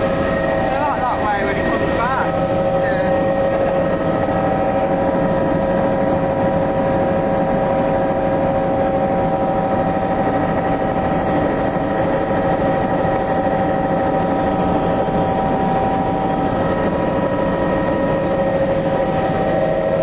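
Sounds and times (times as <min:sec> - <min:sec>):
constant high whine: 0:00.0 - 0:20.0
helicopter engine and rotor noise: 0:00.0 - 0:20.0.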